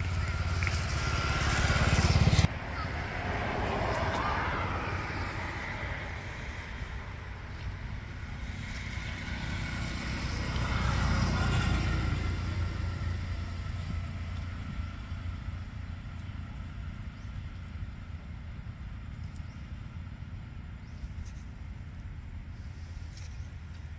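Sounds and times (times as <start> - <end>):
vehicle passing by: 0.0 - 21.5
steady low rumble: 0.0 - 23.9.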